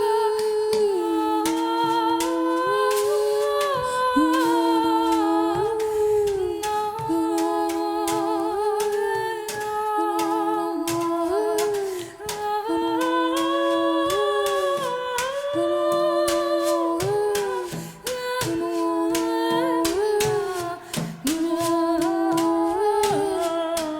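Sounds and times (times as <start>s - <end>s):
voices singing a cappella: 0.0s - 23.9s.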